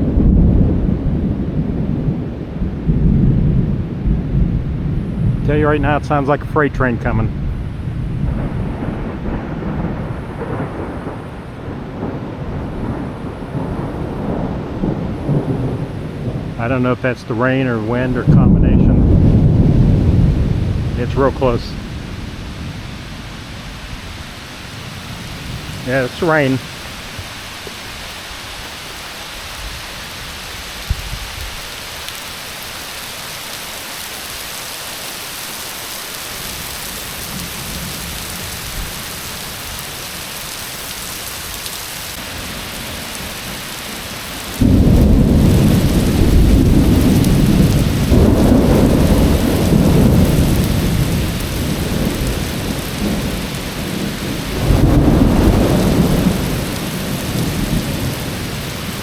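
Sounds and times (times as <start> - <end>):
thunder rumbling: 0.0 - 28.0, 36.1 - 59.0
heavy rain: 0.0 - 59.0.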